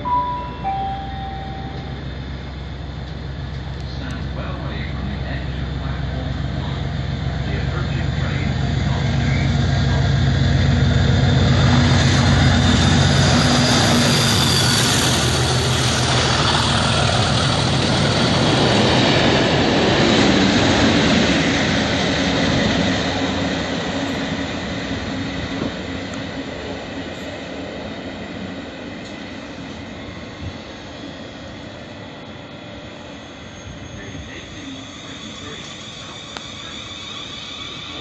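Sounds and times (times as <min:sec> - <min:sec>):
diesel locomotive engine passing: 0:00.0 - 0:38.0
train coaches rushing past: 0:00.0 - 0:38.0.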